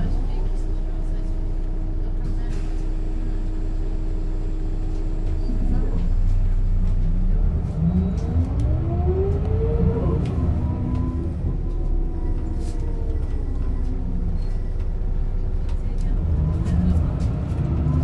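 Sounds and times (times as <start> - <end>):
bus engine: 0.0 - 18.0.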